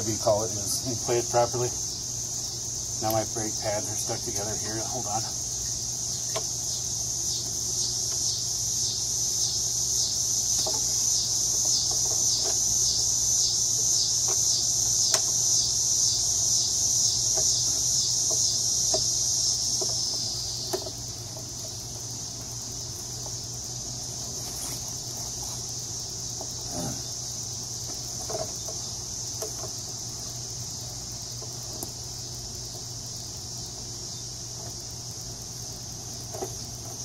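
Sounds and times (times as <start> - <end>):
high pulsing insect buzz: 0.0 - 37.0.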